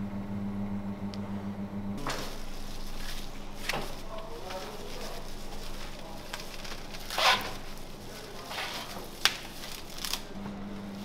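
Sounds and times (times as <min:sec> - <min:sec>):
cling film crinkling: 0:02.0 - 0:11.0.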